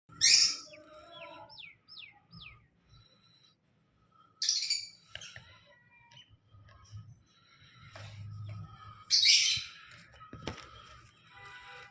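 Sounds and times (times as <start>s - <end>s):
soft bird chatter: 0.1s - 11.9s.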